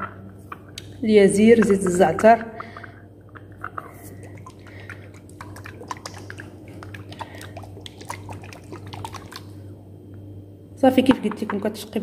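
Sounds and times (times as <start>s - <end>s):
faint low hum: 0.0s - 12.0s
soft liquid squishing: 0.2s - 10.4s.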